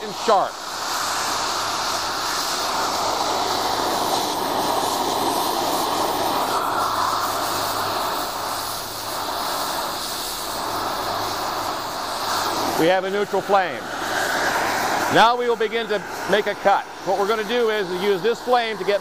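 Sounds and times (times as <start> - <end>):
cutting torch flame hissing: 0.0 - 19.0.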